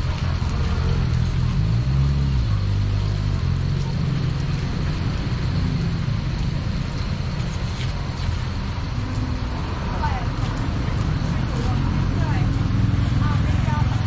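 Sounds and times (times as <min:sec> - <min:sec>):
oil sizzling: 0:00.0 - 0:12.3.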